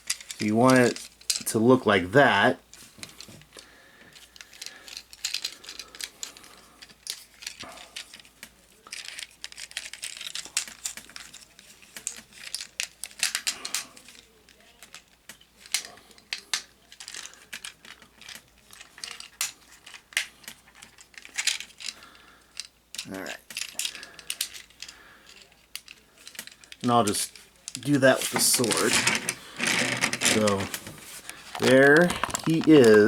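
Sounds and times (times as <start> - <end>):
plastic toy parts clicking and rattling: 0.0 - 1.6, 2.7 - 33.0.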